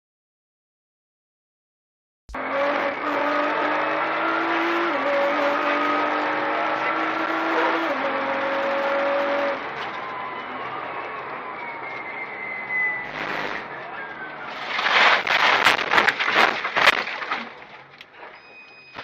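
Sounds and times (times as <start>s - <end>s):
car engine high revs: 2.3s - 18.3s
road and wind noise: 2.4s - 19.0s.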